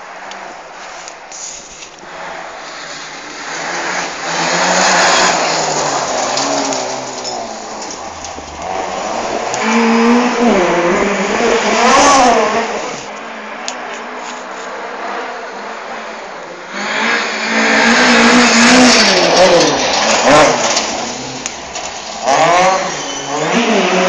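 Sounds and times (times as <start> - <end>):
rally car engine revving: 2.0 - 24.0.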